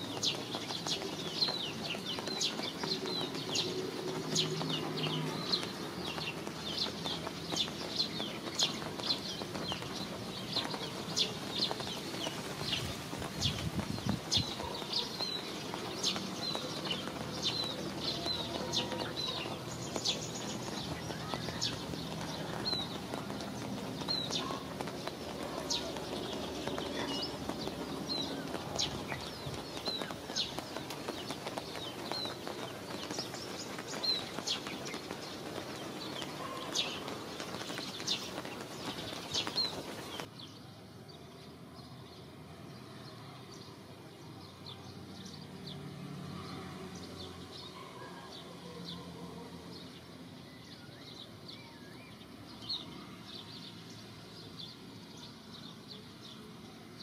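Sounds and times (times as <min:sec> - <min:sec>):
rain on stone and foliage: 0:00.0 - 0:57.0.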